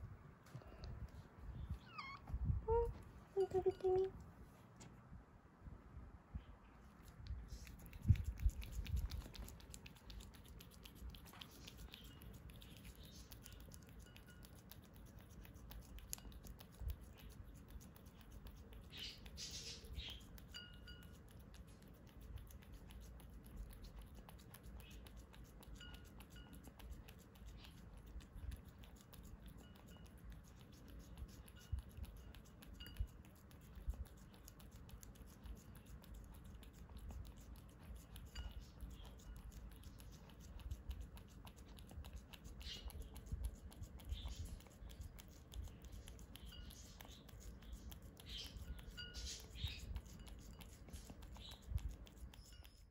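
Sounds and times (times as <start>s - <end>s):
cat licking wet clicks: 6.9s - 52.9s.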